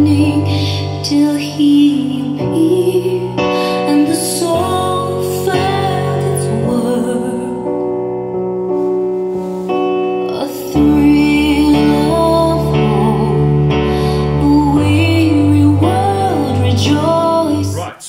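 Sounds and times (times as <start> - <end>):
slow female vocal song with piano: 0.0 - 17.8.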